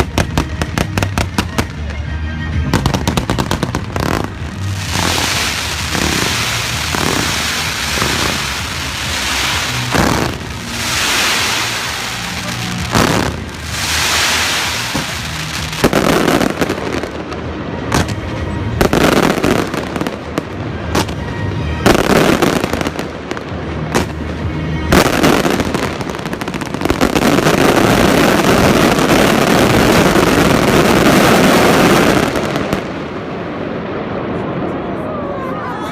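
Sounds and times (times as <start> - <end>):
fireworks bursts and bangs: 0.0 - 35.0
dense fireworks crackling: 0.0 - 35.9.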